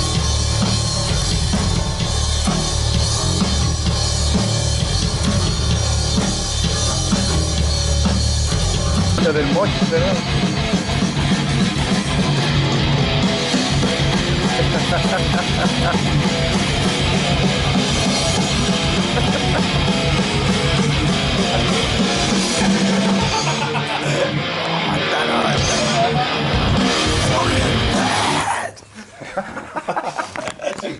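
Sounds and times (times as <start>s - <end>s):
thrash metal with electric guitars: 0.0s - 28.6s.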